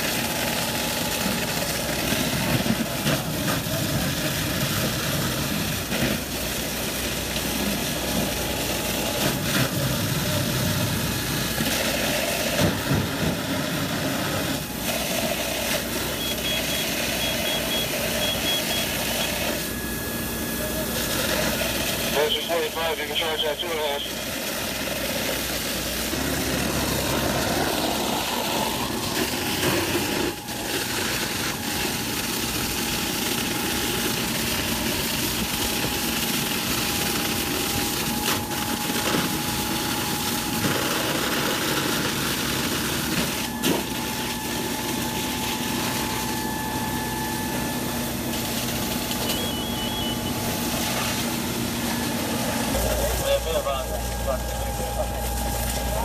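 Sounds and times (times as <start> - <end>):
fire engine pump humming: 0.0 - 56.0
hose water spraying: 0.0 - 56.0.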